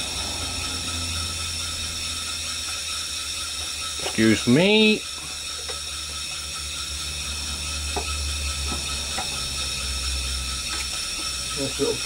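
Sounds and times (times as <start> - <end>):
low hum: 0.0 - 12.0
steam engine hissing: 0.0 - 12.0.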